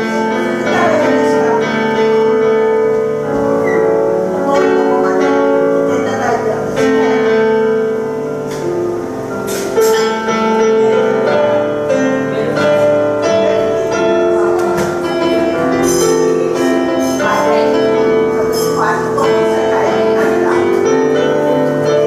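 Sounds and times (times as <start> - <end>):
grand piano improvisation: 0.0 - 22.0.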